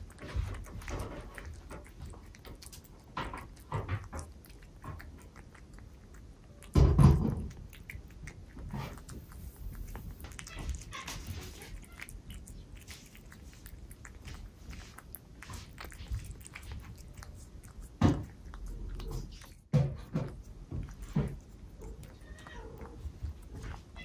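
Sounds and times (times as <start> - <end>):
cat lapping and chewing food: 0.0 - 24.0.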